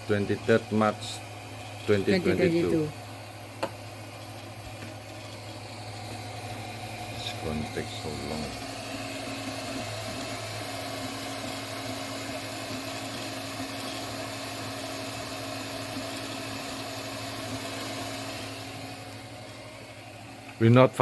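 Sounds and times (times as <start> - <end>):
printer fans and motors humming: 0.0 - 21.0.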